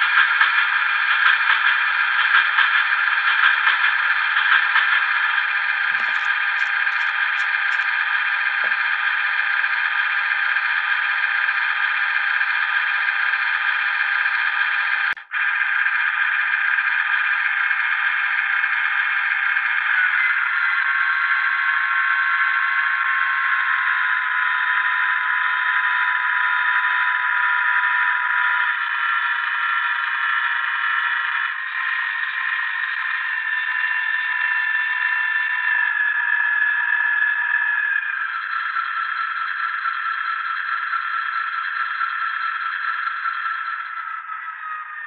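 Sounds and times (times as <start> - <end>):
diesel engine sound from small speaker: 0.0 - 45.0.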